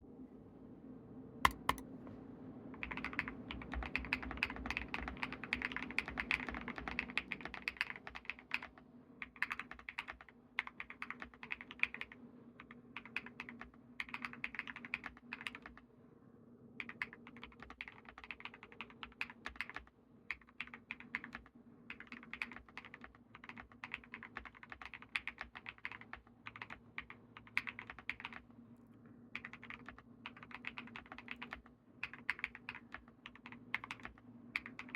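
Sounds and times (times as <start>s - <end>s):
faint steady hum: 0.0s - 34.9s
mechanical keyboard typing: 1.5s - 1.8s, 2.8s - 15.8s, 16.8s - 28.5s, 29.3s - 34.9s.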